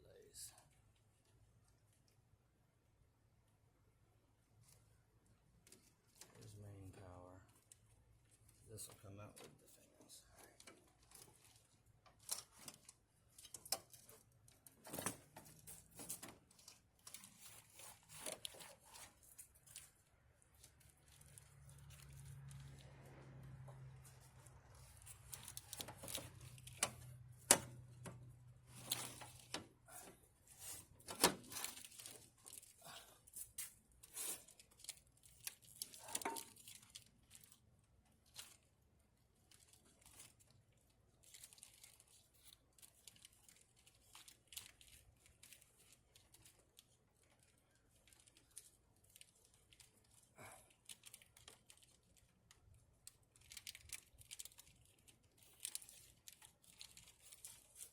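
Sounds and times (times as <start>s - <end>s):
plastic and wiring crinkling: 5.6s - 57.9s.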